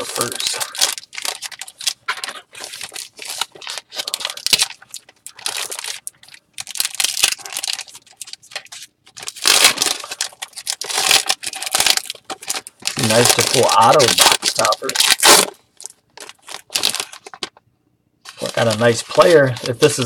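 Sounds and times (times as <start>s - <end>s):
foil wrapper tearing and crinkling: 0.0s - 17.5s, 18.3s - 20.0s.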